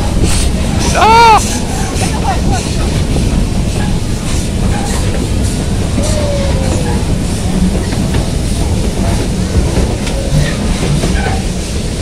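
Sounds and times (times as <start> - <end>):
steam train wheels rumbling on rails: 0.0 - 12.0.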